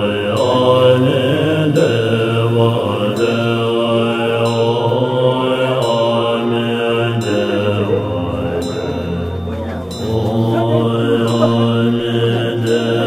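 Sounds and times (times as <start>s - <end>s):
mantra chanting: 0.0s - 13.0s
steady low drone: 0.0s - 13.0s.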